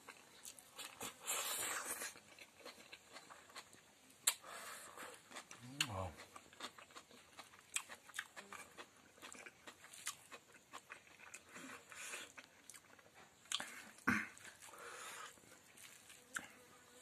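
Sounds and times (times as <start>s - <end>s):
chewing and lip-smacking: 0.0s - 16.6s.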